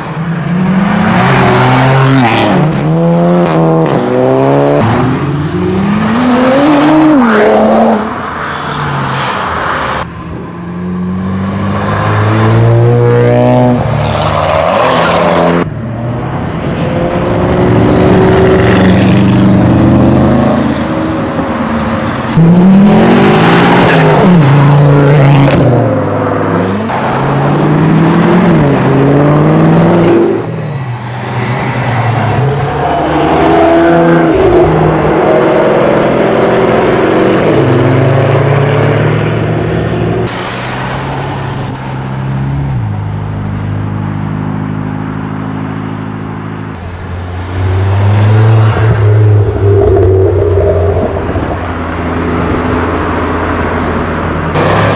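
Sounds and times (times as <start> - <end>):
sports cars accelerating: 0.0 - 30.6, 32.3 - 54.9.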